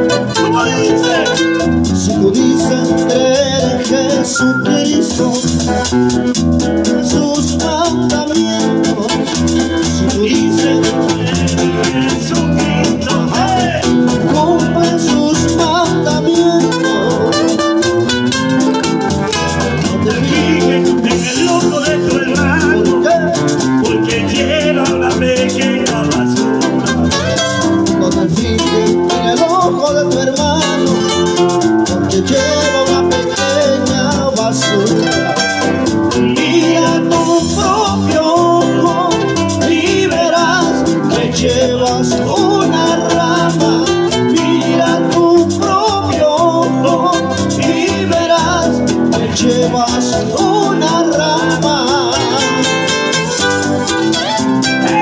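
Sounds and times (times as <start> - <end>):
acoustic guitars: 0.0 - 55.0
electric bass: 0.0 - 55.0
man singing: 0.0 - 55.0.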